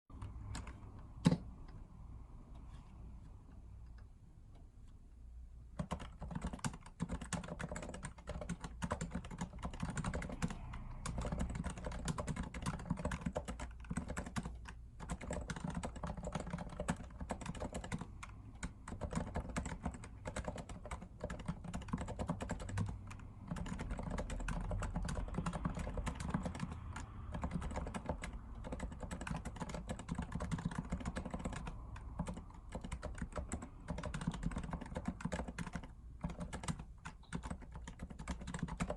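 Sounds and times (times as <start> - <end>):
rapid keyboard typing: 0.1 - 1.8, 5.7 - 38.9.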